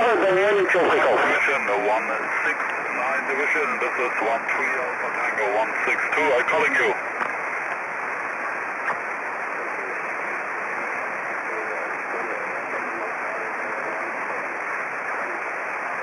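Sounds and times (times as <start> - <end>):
weak radio voice: 0.0 - 7.0, 9.4 - 16.0
radio static hiss: 0.0 - 16.0.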